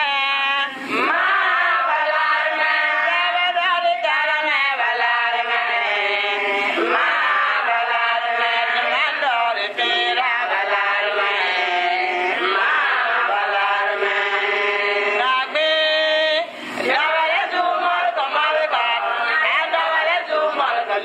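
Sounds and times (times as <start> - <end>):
voices singing a chant: 0.0 - 21.0.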